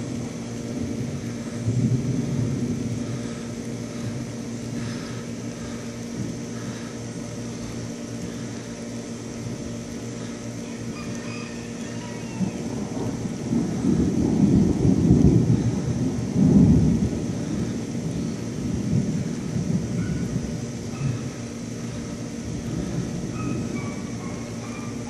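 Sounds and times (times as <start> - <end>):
distant thunder rumble: 0.0 - 8.6, 12.0 - 25.0.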